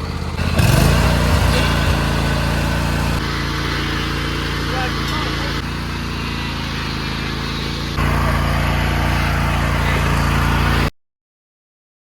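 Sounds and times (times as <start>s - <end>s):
vehicle engine idling: 0.0s - 10.9s.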